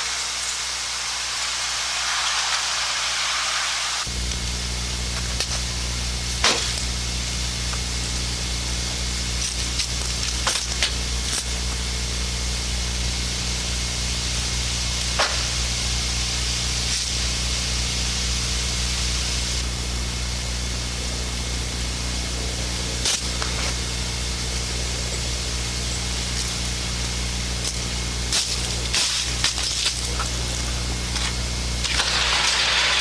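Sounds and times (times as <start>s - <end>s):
low electrical hum: 0.0s - 33.0s
steady hiss: 0.0s - 33.0s.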